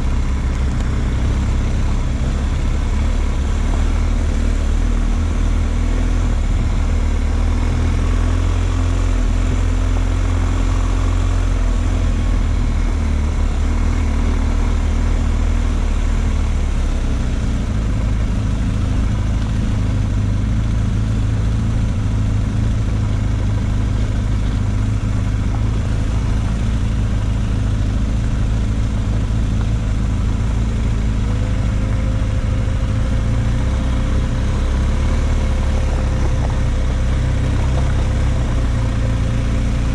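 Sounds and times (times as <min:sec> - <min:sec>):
off-road vehicle engine rumbling: 0:00.0 - 0:39.9.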